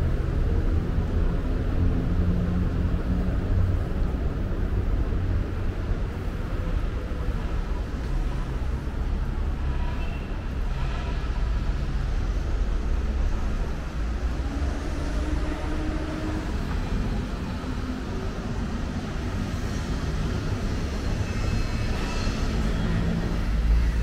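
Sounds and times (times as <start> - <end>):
low rumble of vehicle noise: 0.0 - 24.0.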